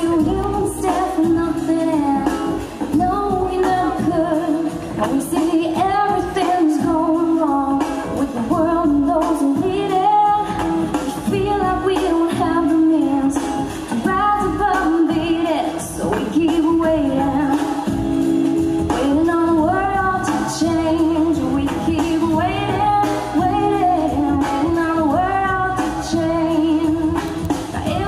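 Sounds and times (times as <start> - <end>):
woman singing into a microphone: 0.0 - 28.0.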